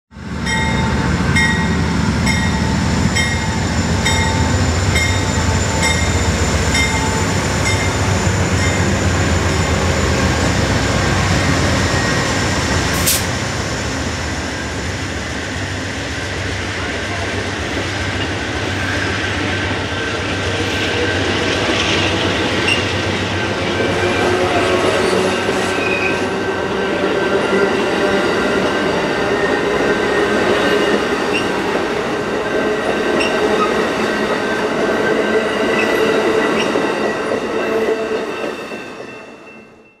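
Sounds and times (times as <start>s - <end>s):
train wheels rumbling on rails: 0.2s - 39.4s.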